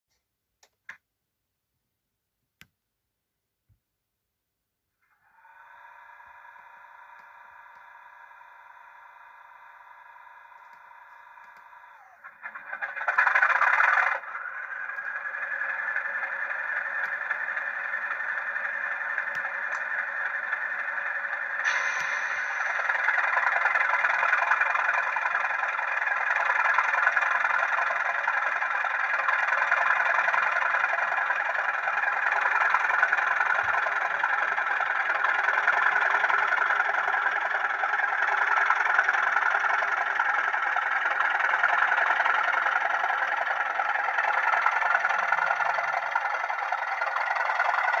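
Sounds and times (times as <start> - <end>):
model locomotive diesel idle sound: 5.0 - 48.0.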